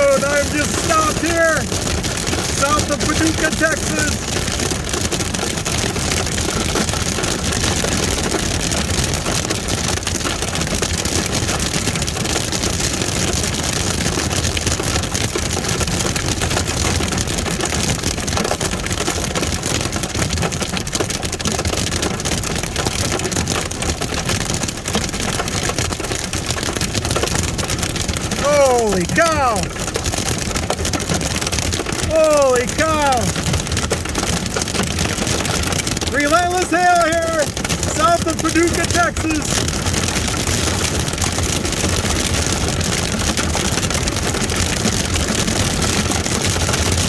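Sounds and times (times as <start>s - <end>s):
hail clattering on vehicle roof: 0.0s - 47.0s.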